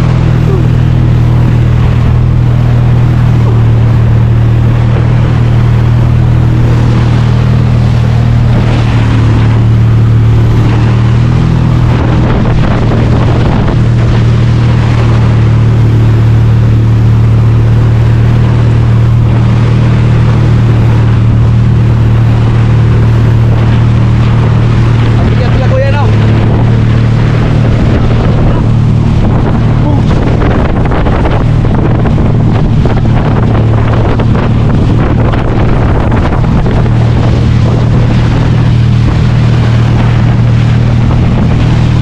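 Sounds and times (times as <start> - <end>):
churning wake water: 0.0 - 42.0
motorboat engine humming: 0.0 - 42.0
wind on microphone: 0.0 - 42.0.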